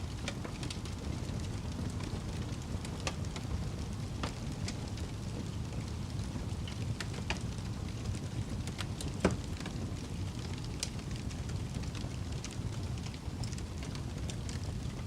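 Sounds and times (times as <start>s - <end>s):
fire crackling: 0.0s - 15.0s
fire flames rumbling: 0.0s - 15.0s.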